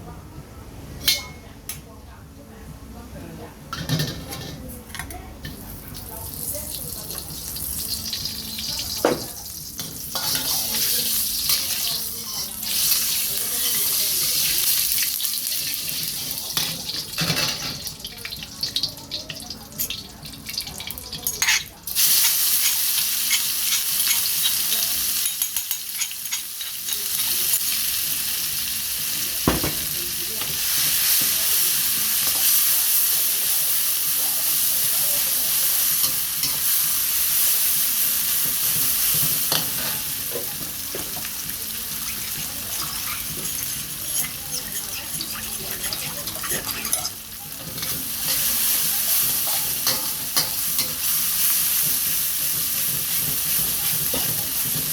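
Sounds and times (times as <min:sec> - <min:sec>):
food sizzling in a pan: 0:05.5 - 0:54.9.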